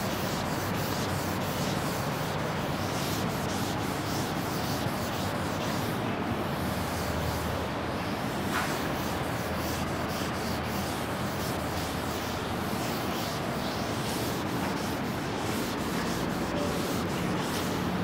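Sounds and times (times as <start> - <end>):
scratchy writing on a board: 0.0 - 6.0, 8.5 - 18.0
steady rushing hiss: 0.0 - 18.0.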